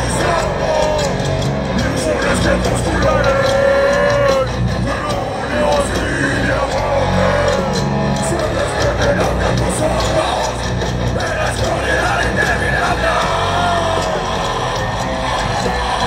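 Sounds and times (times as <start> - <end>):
person singing: 0.0 - 14.8
heavy metal band playing: 0.0 - 16.0.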